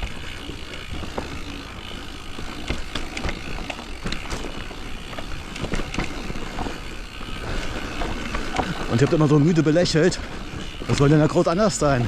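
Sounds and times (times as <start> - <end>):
bike knocking and clattering: 0.0 - 12.0
tyres rolling over roots and stones: 0.0 - 12.0.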